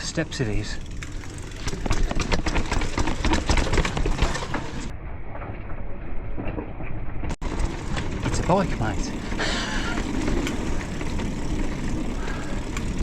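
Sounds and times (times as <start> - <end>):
bike rattling over rocks: 0.0 - 4.9, 7.4 - 13.0.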